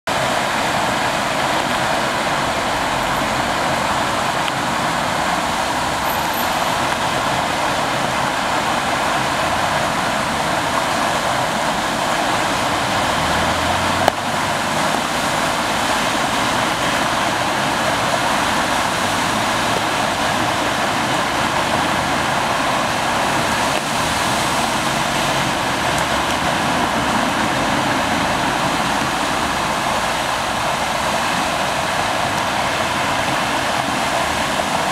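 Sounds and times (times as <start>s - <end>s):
cars splashing through water: 0.1s - 34.9s
water rushing: 0.1s - 34.9s.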